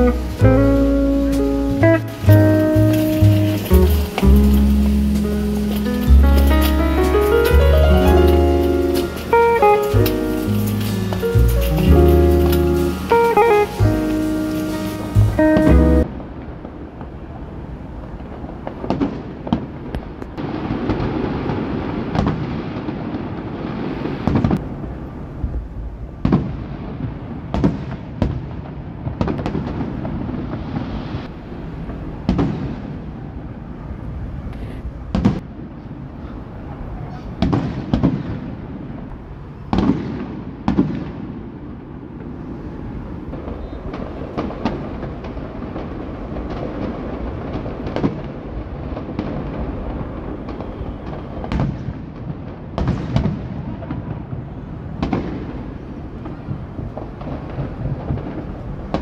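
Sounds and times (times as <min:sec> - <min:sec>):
fireworks bangs: 0:00.0 - 0:59.0
rumble of fireworks bursts: 0:00.0 - 0:59.0.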